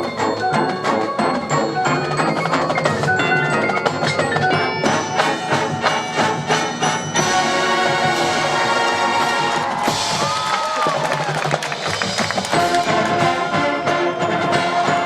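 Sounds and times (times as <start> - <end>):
mallet percussion fast notes: 0.0 - 15.0
marching band playing: 0.0 - 15.0.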